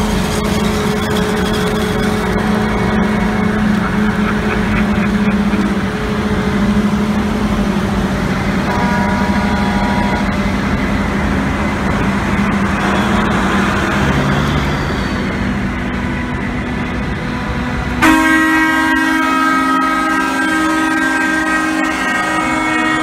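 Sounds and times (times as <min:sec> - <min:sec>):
diesel engines running under load: 0:00.0 - 0:23.0
steady pitched tone: 0:00.0 - 0:23.0.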